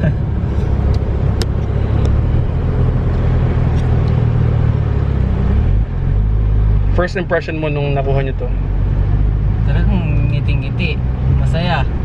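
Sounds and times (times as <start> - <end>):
car engine running: 0.0 - 12.0
road rumble: 0.0 - 12.0.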